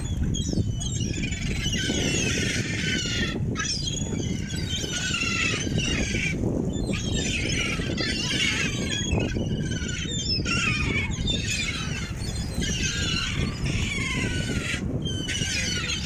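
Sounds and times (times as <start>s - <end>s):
gulls squawking: 0.0s - 16.0s.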